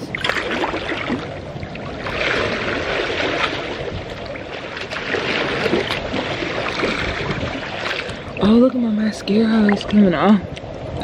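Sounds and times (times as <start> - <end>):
pool water sloshing and lapping: 0.0 - 11.0
small water splashes: 0.0 - 11.0.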